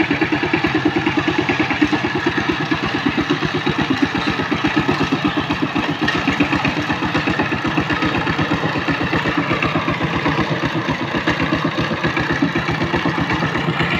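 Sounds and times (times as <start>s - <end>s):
tiller diesel engine running: 0.0s - 13.9s.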